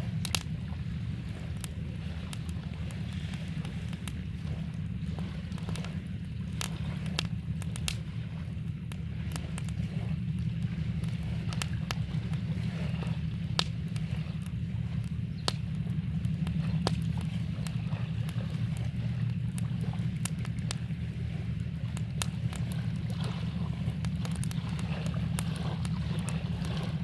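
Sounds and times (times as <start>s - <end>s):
campfire crackling and popping: 0.0s - 27.0s
flowing river water: 0.0s - 27.0s.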